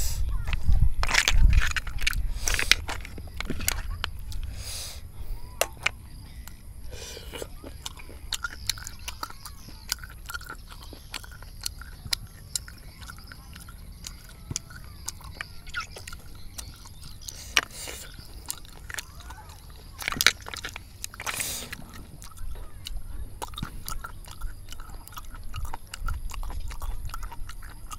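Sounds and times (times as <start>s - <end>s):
chewing: 0.0s - 27.9s
snail shells clicking: 0.0s - 27.9s.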